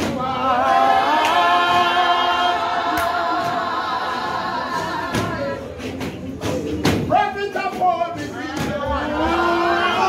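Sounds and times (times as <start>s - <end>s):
congregation singing unaccompanied: 0.0s - 10.0s.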